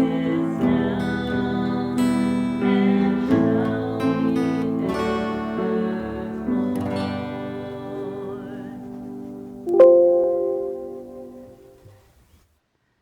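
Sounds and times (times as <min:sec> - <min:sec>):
acoustic guitar strummed and picked: 0:00.0 - 0:11.8.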